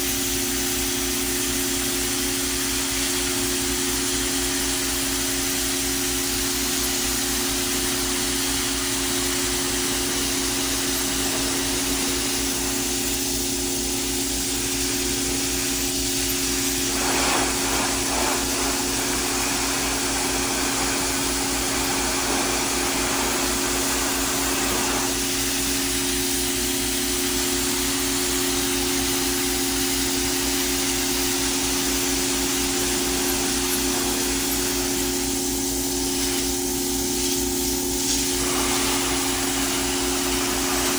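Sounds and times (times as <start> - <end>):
pressure washer motor drone: 0.0 - 40.9
pressure washer water spraying: 0.0 - 40.9.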